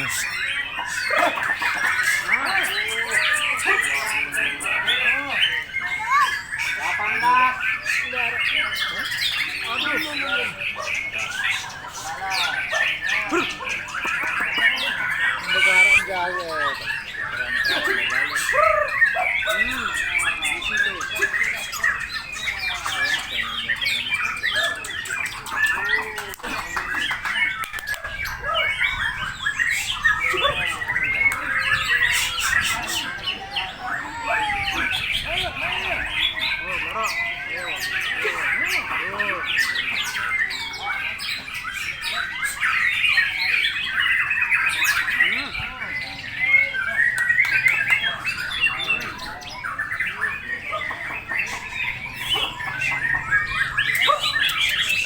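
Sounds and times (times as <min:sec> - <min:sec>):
songbirds chirping and squawking: 0:00.0 - 0:55.0.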